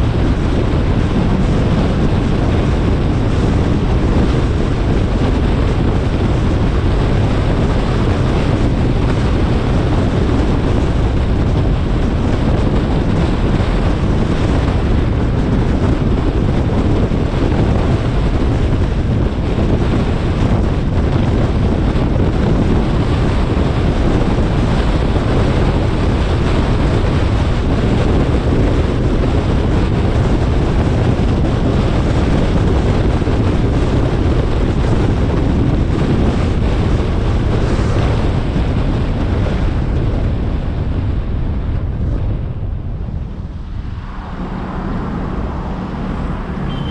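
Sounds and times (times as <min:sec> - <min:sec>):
car road noise: 0:00.0 - 0:46.9
wind buffeting microphone: 0:00.0 - 0:46.9.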